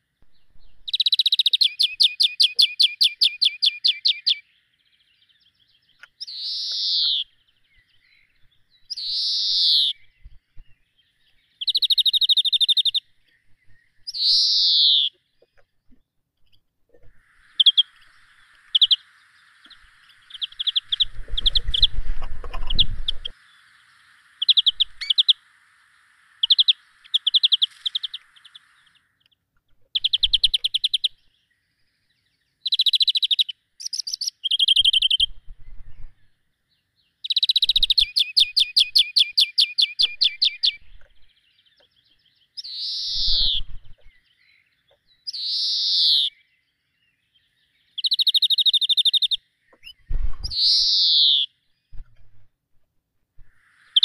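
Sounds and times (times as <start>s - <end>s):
downward-sweeping bird calls: 0.0s - 16.0s, 17.0s - 52.1s, 53.4s - 54.0s
small birds chirping trills: 0.0s - 52.5s, 53.4s - 54.0s.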